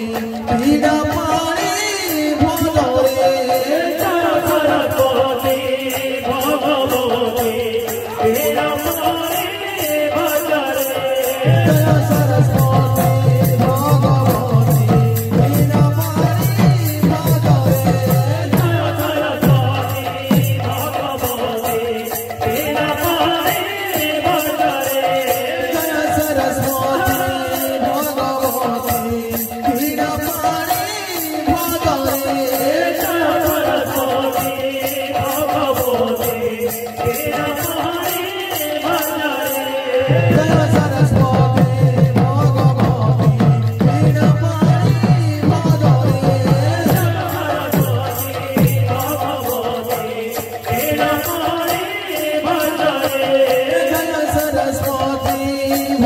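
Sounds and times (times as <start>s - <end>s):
devotional singing: 0.0s - 56.0s
hand cymbals jingling: 0.0s - 56.0s.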